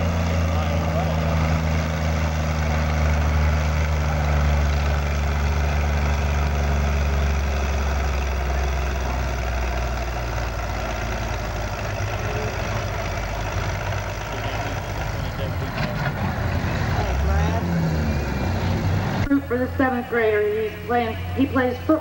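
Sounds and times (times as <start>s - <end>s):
tractor engine droning: 0.0s - 22.0s.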